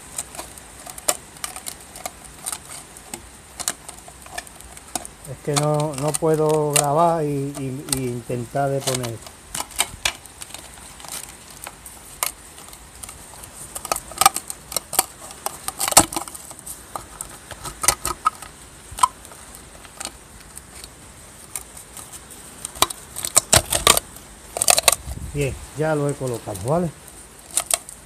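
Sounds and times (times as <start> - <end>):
metallic clicks and scrapes: 0.0 - 25.0, 26.2 - 28.0.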